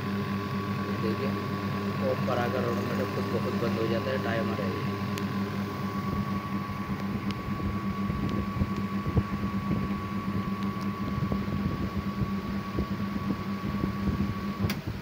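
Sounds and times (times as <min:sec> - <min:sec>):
electric motor humming: 0:00.0 - 0:15.0.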